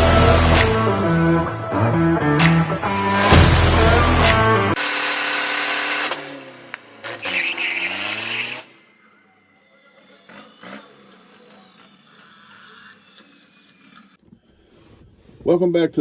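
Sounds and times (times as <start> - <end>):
car engine revving: 0.0 - 14.2.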